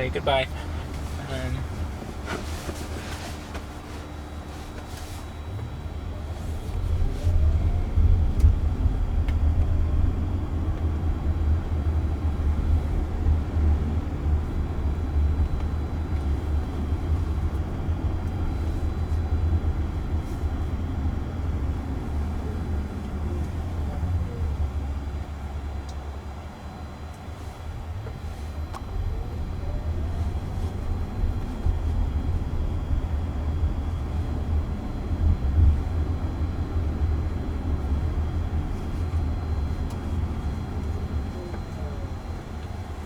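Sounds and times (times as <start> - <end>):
faint whine: 0.0 - 43.0
road and tyre rumble in car cabin: 0.0 - 43.0.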